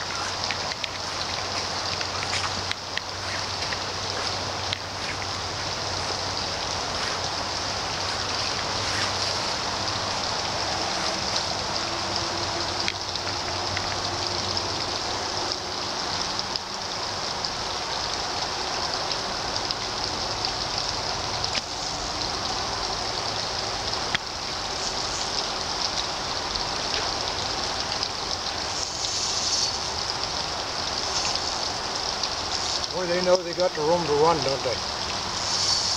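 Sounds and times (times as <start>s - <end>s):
creek water rushing: 0.0s - 35.9s.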